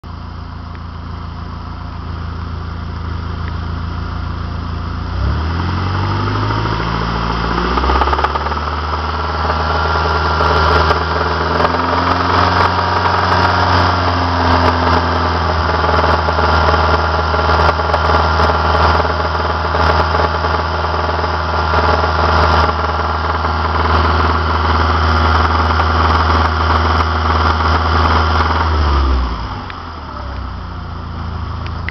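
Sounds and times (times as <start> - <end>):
car engine revving: 1.1 - 31.9.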